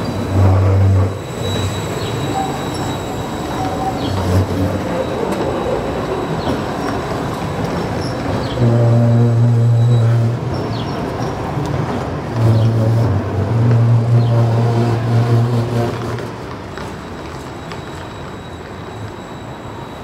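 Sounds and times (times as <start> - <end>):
electric tram hum: 0.0 - 20.0
wheels rumbling on rail: 0.0 - 20.0.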